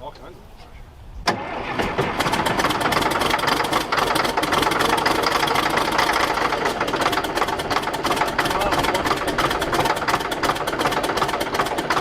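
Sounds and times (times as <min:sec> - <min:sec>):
diesel engine running rough: 0:01.3 - 0:12.0.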